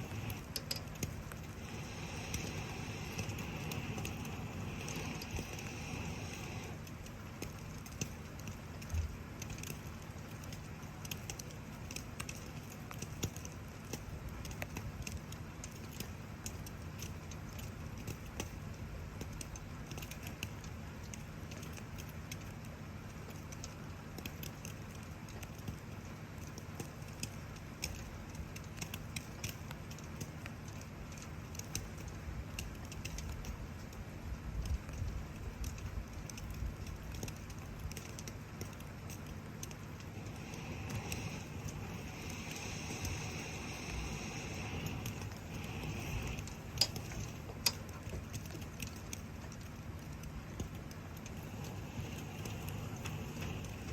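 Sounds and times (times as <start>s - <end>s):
low background rumble: 0.0s - 53.9s
rain falling: 0.0s - 53.9s
wood fire crackling and popping: 0.0s - 53.9s.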